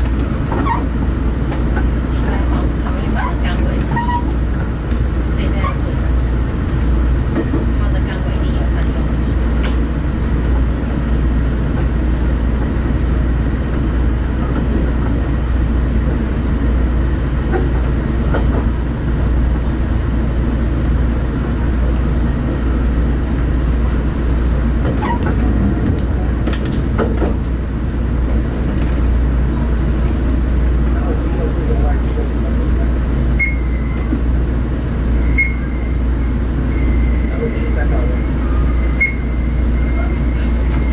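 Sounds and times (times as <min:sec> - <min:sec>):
railcar engine and wheels rumbling: 0:00.0 - 0:40.9.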